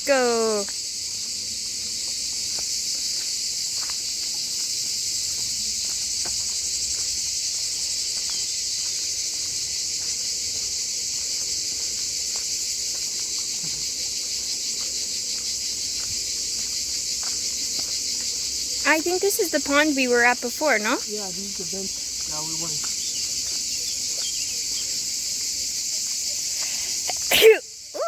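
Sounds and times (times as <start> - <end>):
insects shrilling: 0.0 - 28.0.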